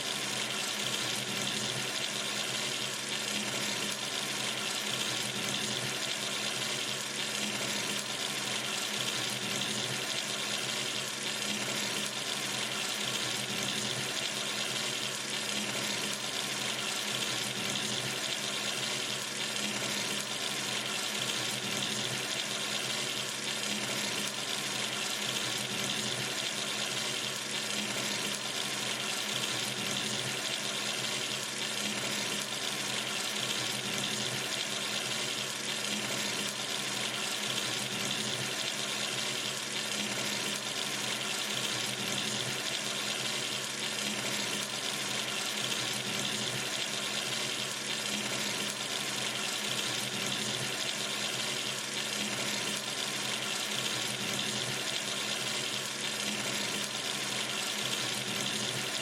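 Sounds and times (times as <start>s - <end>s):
tap water running into sink: 0.0s - 59.0s.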